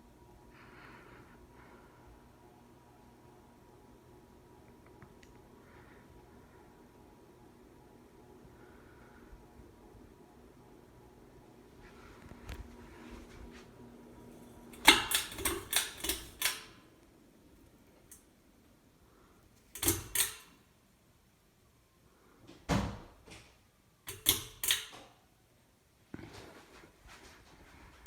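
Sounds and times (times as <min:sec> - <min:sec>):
ceiling fan motor hum: 0:00.0 - 0:28.0.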